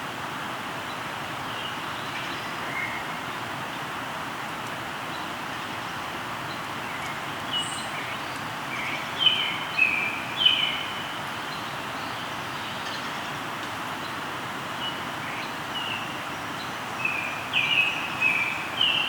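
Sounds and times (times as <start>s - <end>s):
river rushing: 0.0s - 19.0s
birds singing: 0.9s - 19.0s.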